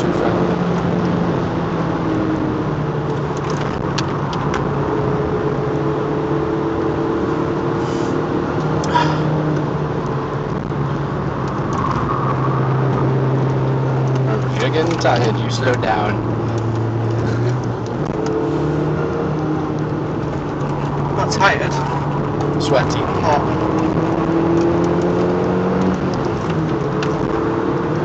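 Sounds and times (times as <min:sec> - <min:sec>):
car engine running hard: 0:00.0 - 0:28.0.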